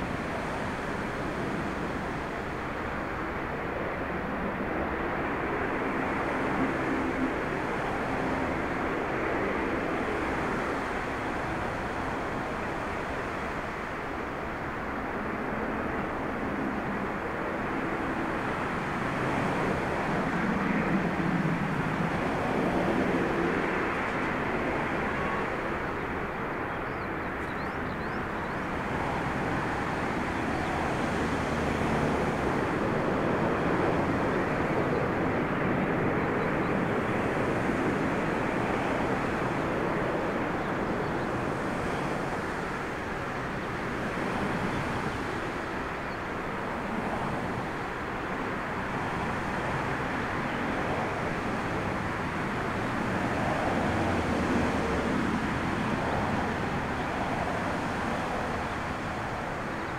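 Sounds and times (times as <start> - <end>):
jet engines rushing: 0.0 - 59.9
wind on microphone: 0.0 - 59.9.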